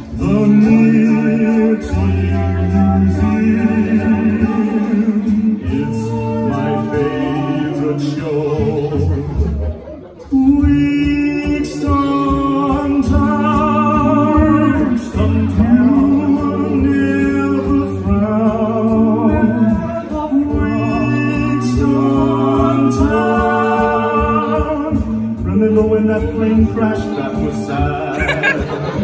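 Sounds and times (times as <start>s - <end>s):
a cappella group singing: 0.0s - 29.0s.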